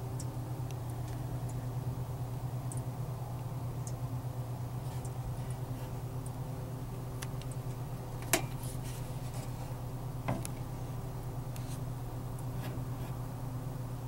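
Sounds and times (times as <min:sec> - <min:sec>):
steady low hum: 0:00.0 - 0:14.0
water sizzling on heaters: 0:00.0 - 0:14.0.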